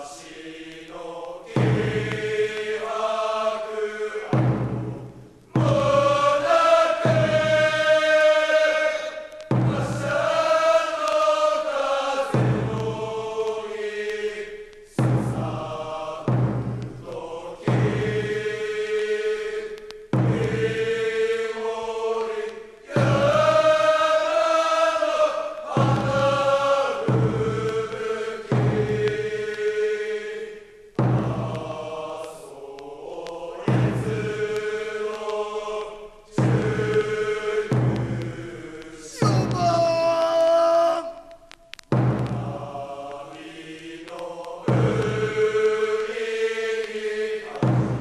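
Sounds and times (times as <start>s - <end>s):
men singing in unison: 0.0s - 4.6s, 5.5s - 48.0s.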